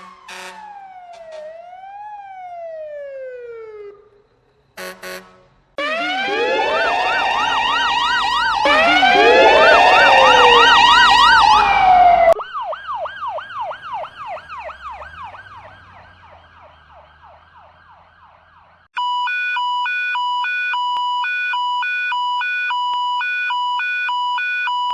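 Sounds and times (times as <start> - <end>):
two-tone hi-lo siren: 0.0 - 4.2, 5.8 - 24.9
sirens wailing and yelping: 0.0 - 4.4, 5.8 - 24.9.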